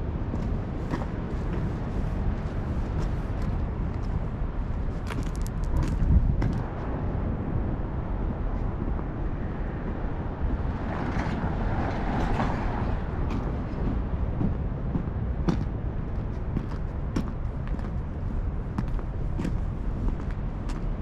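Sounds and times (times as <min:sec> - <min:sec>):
low rumbling outdoor noise: 0:00.0 - 0:21.0.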